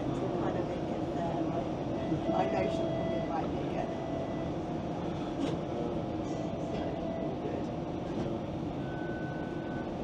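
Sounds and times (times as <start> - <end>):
streetcar rolling on track: 0.0 - 10.0.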